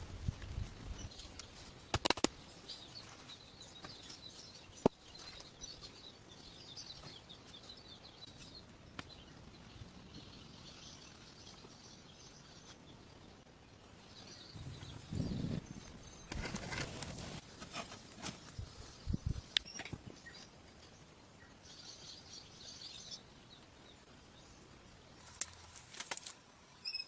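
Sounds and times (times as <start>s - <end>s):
small birds chirping: 0.3s - 17.2s, 17.8s - 25.8s.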